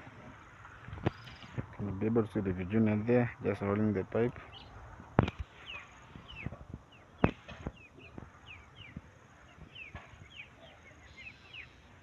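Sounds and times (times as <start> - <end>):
birds chirping: 0.4 - 12.0.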